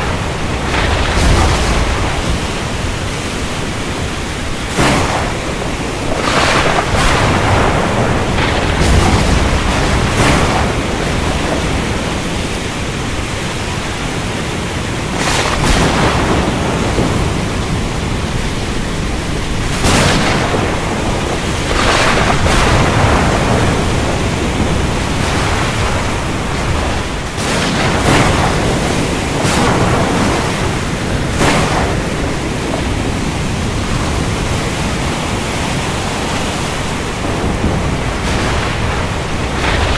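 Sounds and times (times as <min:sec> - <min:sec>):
deep rumble of thunder: 0:00.0 - 0:36.0, 0:36.8 - 0:39.9
rain: 0:00.0 - 0:39.9
sea: 0:00.0 - 0:39.9.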